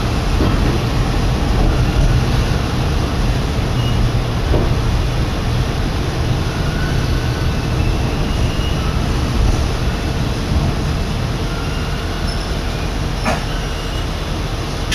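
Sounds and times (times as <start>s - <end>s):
diesel railcar low rumble: 0.0s - 14.9s.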